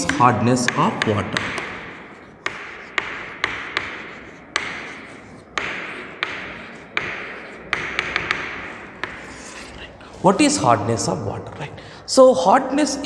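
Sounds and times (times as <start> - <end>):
chalk scratching on blackboard: 0.0 - 10.7
chalk tapping on blackboard: 0.0 - 10.8.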